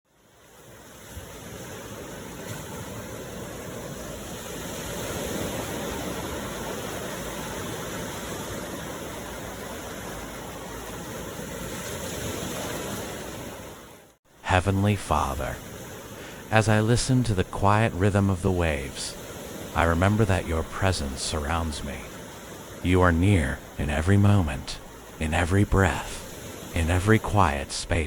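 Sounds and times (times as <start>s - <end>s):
ocean waves washing on shore: 0.1s - 28.0s.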